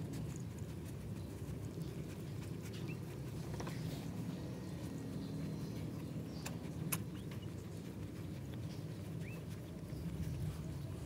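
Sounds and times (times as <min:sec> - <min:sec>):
cat licking and chewing: 0:00.0 - 0:11.0
steady low rumble: 0:00.0 - 0:11.0.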